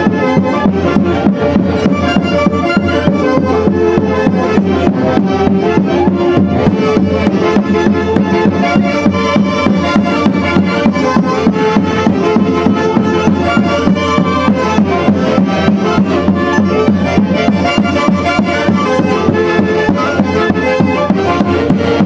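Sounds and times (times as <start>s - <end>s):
melody instruments playing: 0.0s - 22.0s
percussion beat: 0.0s - 22.0s.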